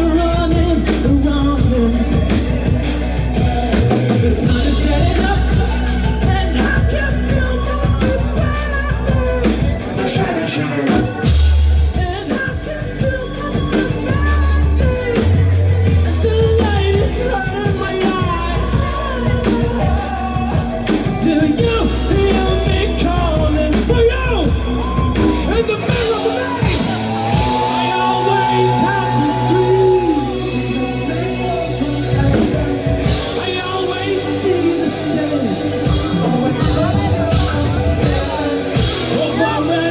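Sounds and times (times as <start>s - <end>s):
person singing: 0.0s - 39.9s
rock band playing live: 0.0s - 39.9s.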